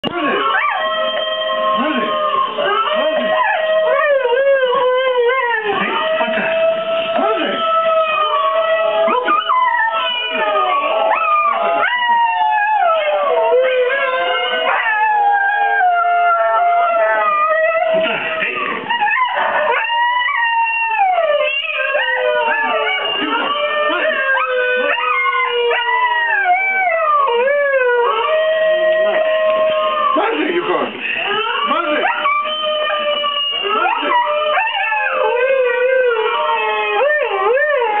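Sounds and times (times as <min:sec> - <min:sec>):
dog howling: 0:00.0 - 0:38.0
recorded wolves howling on speakers: 0:00.0 - 0:38.0.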